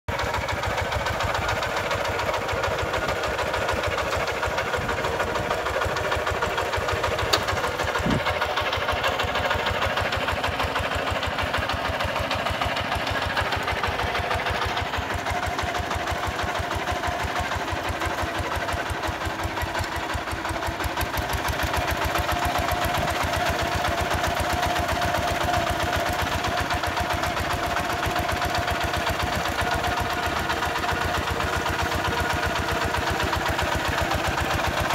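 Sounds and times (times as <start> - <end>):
diesel tractor engine chugging: 0.1 - 34.9.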